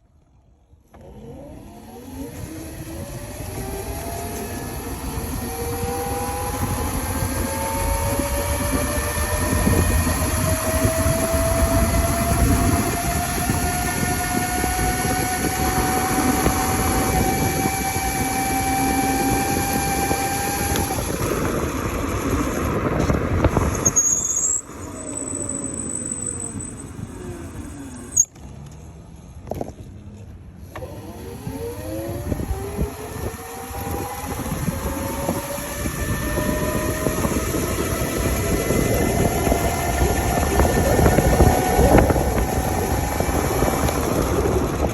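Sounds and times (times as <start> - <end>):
electric motor whining: 0.9 - 28.3, 30.7 - 44.9
rushing wind: 1.2 - 28.2, 30.7 - 44.9.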